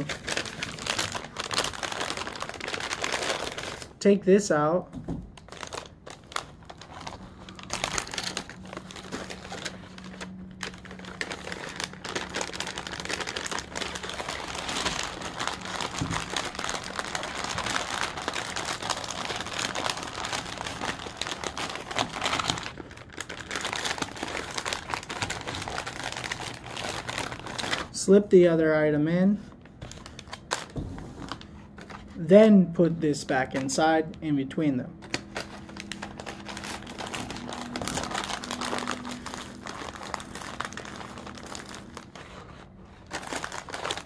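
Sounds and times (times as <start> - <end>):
plastic packaging crinkling: 0.0 - 4.0, 5.3 - 28.0, 29.6 - 32.3, 35.0 - 44.0.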